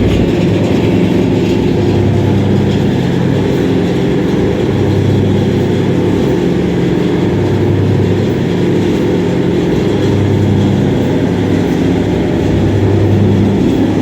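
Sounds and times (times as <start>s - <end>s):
washing machine mechanical hum: 0.0s - 14.0s.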